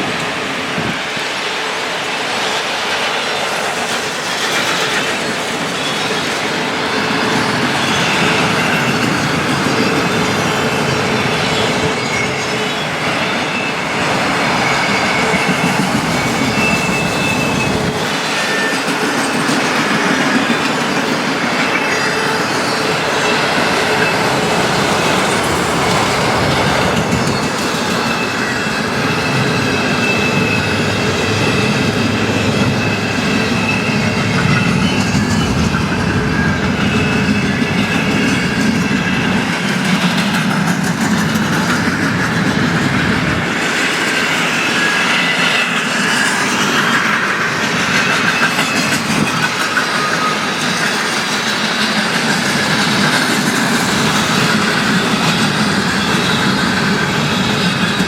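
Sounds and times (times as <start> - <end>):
train cars rumbling and clattering: 0.0 - 58.0
faint high wheel squeal: 3.1 - 58.0.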